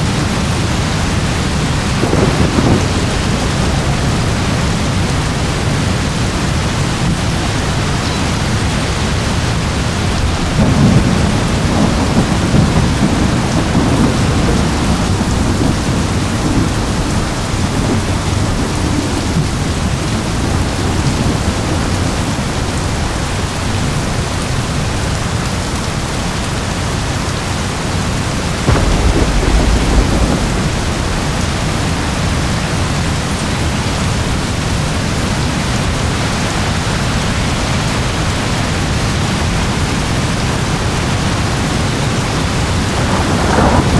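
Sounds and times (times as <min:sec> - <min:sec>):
thunder rumbling: 0:00.0 - 0:25.0, 0:27.4 - 0:43.9
steady rain: 0:00.0 - 0:43.9.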